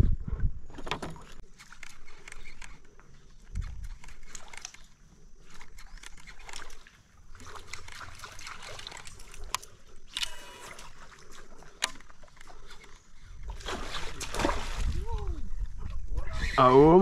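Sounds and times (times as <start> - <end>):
water trickling and sloshing: 1.1 - 16.1.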